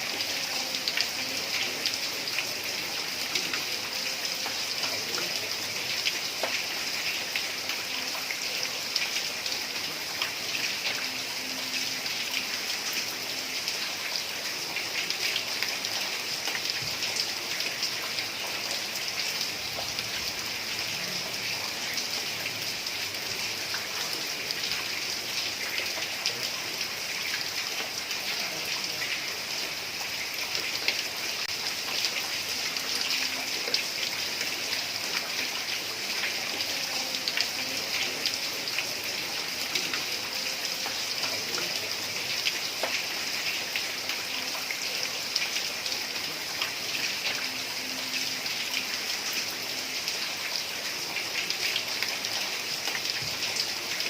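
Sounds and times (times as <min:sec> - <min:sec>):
heavy rain on a tiled roof: 0:00.0 - 0:54.0.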